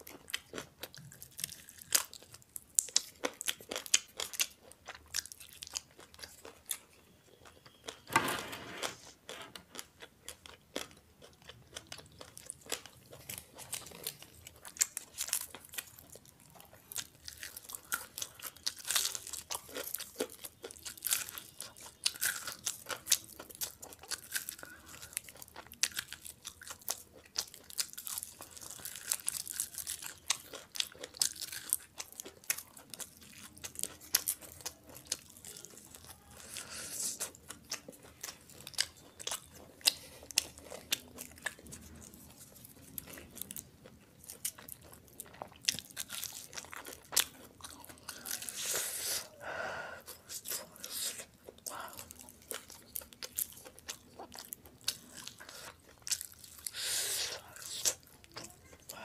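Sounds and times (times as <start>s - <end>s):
crunchy chewing: 0.0s - 8.1s, 8.8s - 49.3s, 50.0s - 59.0s.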